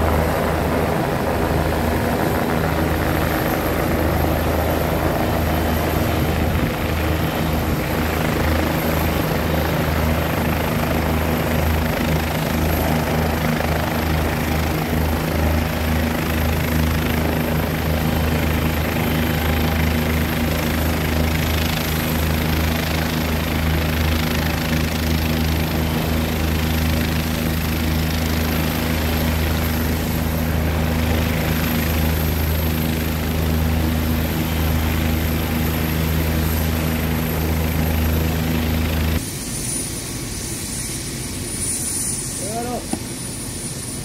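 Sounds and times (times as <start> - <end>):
helicopter rotor and turbine: 0.0 - 44.0.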